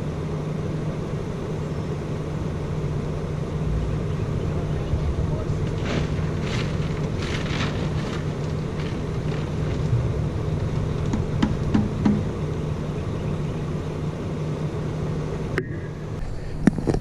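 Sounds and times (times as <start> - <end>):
road and wind noise: 0.0 - 17.0
vehicle engine running: 0.0 - 17.0.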